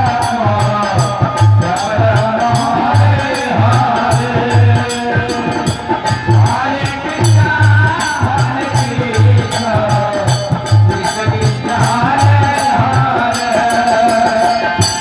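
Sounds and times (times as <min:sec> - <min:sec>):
hand drum beat: 0:00.0 - 0:15.0
jingling percussion: 0:00.0 - 0:15.0.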